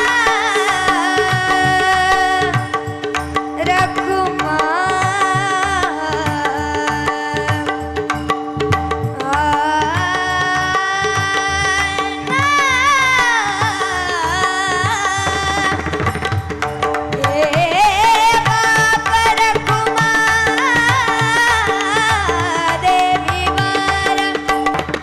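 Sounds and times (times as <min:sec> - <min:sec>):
tabla beat: 0:00.0 - 0:25.0.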